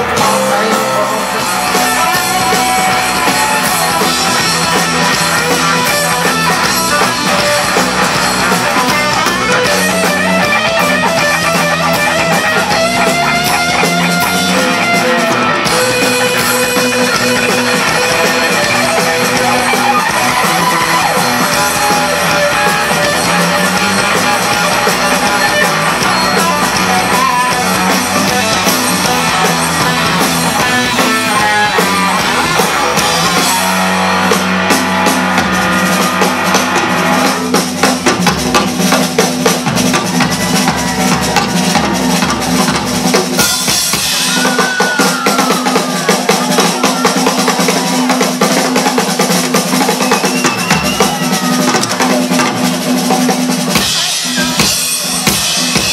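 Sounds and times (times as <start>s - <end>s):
drums hitting hard: 0.0s - 55.9s
rock band playing: 0.0s - 55.9s.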